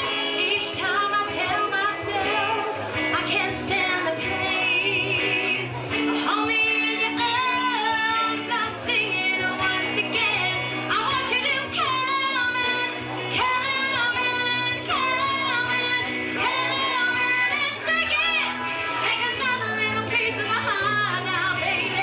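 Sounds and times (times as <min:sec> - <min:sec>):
musical accompaniment: 0:00.0 - 0:22.0
woman singing with vibrato: 0:00.0 - 0:22.0.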